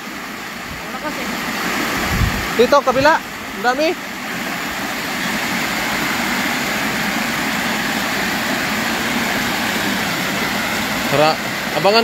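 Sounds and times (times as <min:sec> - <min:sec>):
water spilling over a weir: 0:00.0 - 0:12.0.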